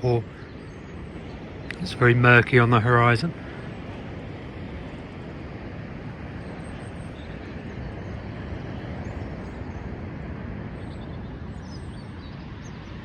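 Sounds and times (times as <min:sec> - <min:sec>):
small birds chirping: 0:00.0 - 0:05.2, 0:06.2 - 0:13.0
rough sea roaring: 0:00.0 - 0:13.0.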